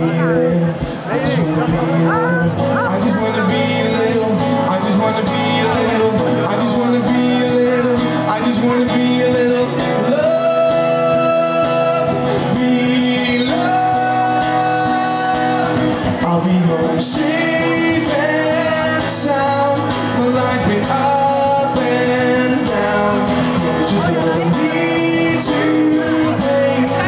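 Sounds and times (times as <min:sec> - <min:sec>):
man singing: 0:00.0 - 0:27.0
strummed acoustic guitar: 0:00.0 - 0:27.0.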